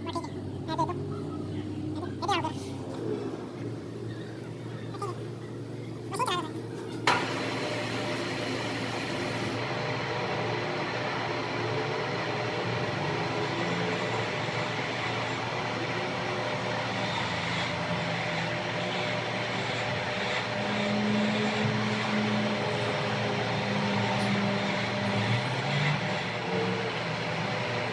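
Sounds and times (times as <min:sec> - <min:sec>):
machine whirring: 0:03.5 - 0:27.9.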